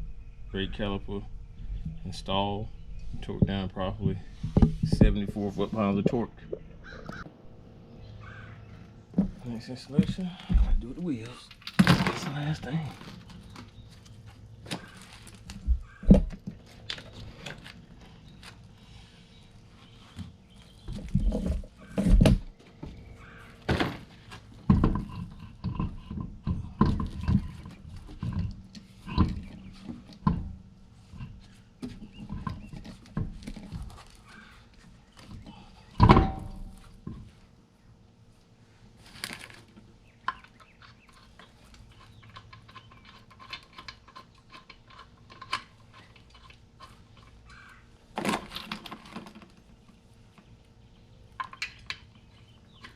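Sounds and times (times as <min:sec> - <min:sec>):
knocks and scrapes of tools: 0:03.0 - 0:07.3, 0:09.1 - 0:18.6, 0:19.7 - 0:37.4, 0:39.0 - 0:50.5, 0:51.4 - 0:52.9.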